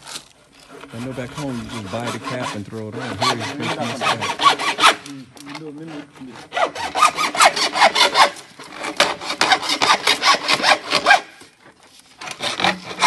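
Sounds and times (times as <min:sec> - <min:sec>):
hacksaw cutting plastic pipe: 0:00.6 - 0:13.0.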